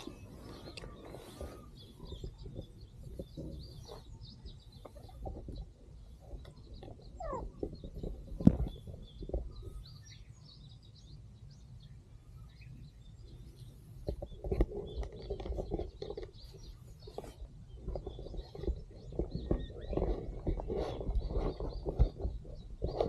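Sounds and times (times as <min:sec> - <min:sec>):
close rustling and handling: 0:00.0 - 0:09.9, 0:13.9 - 0:23.0
small birds chirping: 0:00.0 - 0:23.0.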